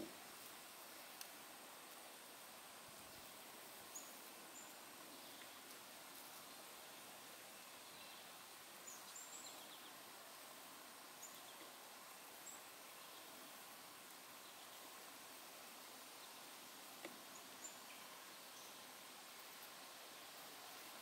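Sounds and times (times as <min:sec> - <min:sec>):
outdoor ambience hiss: 0:00.0 - 0:21.0.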